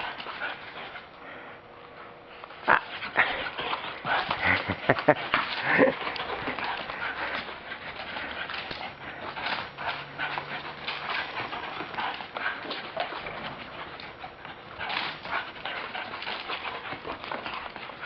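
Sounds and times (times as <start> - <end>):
dog paws pattering: 0.0 - 18.0.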